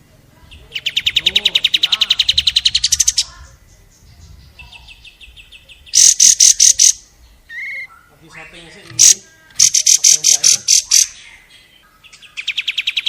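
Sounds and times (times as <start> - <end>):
sharp bird notes: 0.5 - 13.0
songbird trilling: 0.5 - 13.0.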